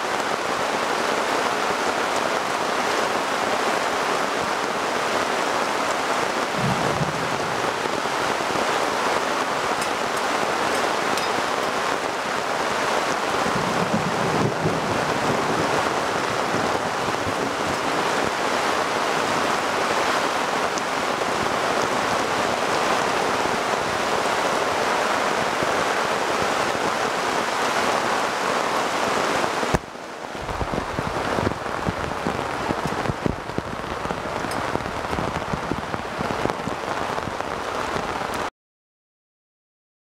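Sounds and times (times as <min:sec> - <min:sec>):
close rain drop strikes: 0:00.0 - 0:38.5
heavy rain hissing: 0:00.0 - 0:38.5.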